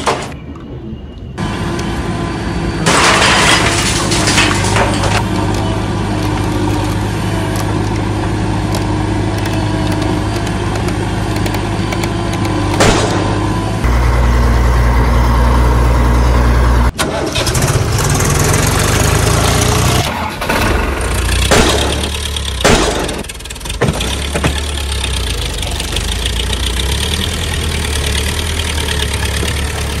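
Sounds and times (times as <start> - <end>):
tractor engine idling: 4.6 - 30.0.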